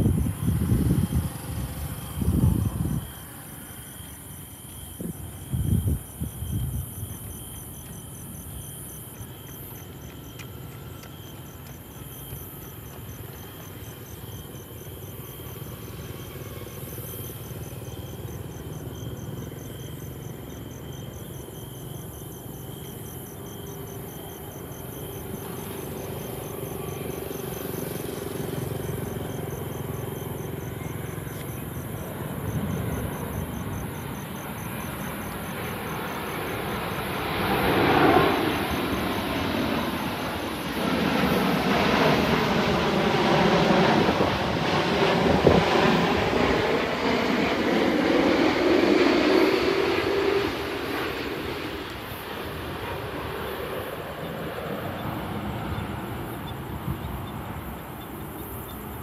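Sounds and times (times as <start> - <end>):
insects chirping: 0.0 - 59.0
jet airliner flying overhead: 0.0 - 59.0.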